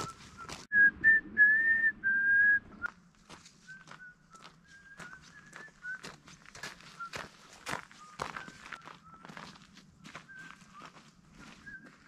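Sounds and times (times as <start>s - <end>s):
walking footsteps: 0.0s - 0.7s, 2.8s - 12.0s
person whistling a slow tune: 0.0s - 2.9s, 3.6s - 12.0s.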